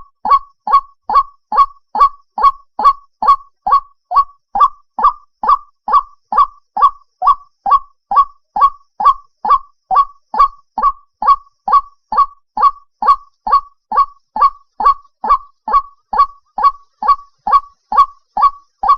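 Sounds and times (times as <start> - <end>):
waterhen harsh call: 0.0 - 18.9.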